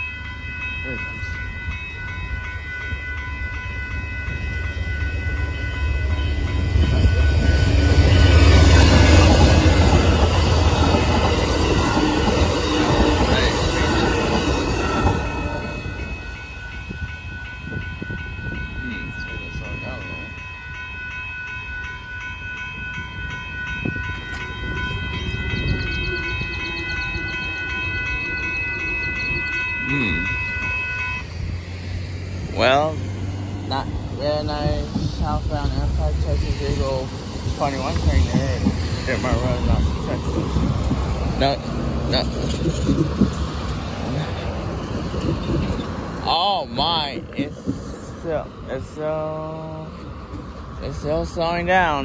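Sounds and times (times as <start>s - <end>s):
railroad crossing bell ringing: 0.0s - 52.0s
train rumble: 0.0s - 52.0s.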